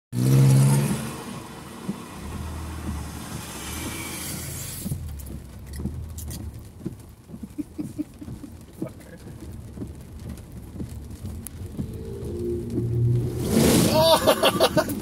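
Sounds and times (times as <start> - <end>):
engine and tyres rumbling: 0.1 - 15.0
water pattering on car body: 0.2 - 15.0.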